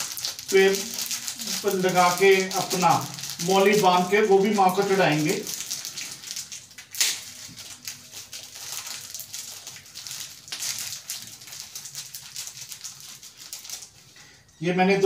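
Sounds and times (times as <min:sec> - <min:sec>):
thread rustling while winding: 0:00.0 - 0:14.2.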